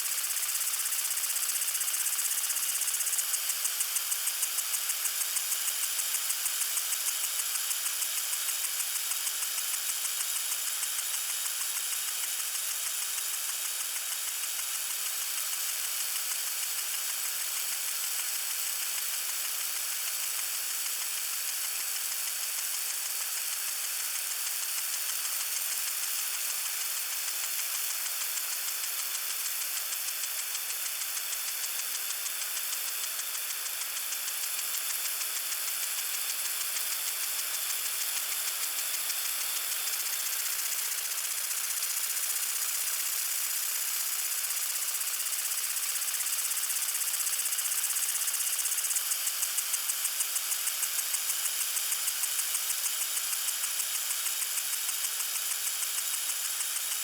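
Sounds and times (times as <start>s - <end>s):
lawn sprinkler hissing and ticking: 0.0s - 57.0s.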